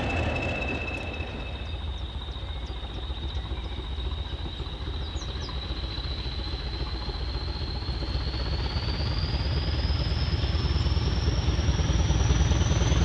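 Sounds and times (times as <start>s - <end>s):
diesel locomotive engine rumble: 0.0s - 13.0s
turbocharger whistle: 0.0s - 13.0s.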